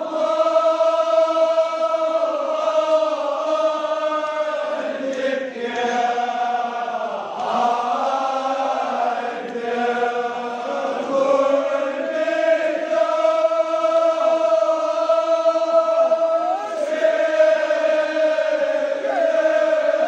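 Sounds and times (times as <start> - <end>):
men chanting in unison: 0.0 - 20.0.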